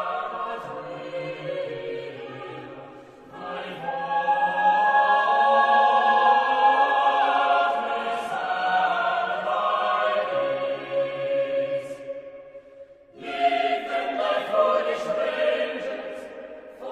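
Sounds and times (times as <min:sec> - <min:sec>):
choir singing held chords: 0:00.0 - 0:16.9.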